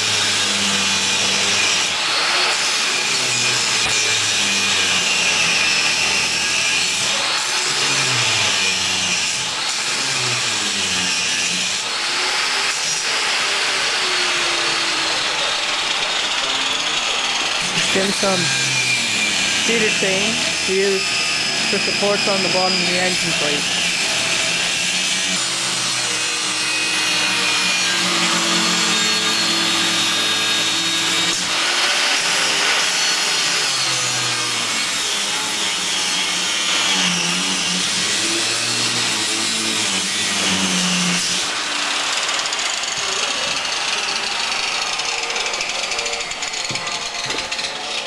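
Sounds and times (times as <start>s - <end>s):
angle grinder grinding steel: 0.0s - 48.0s.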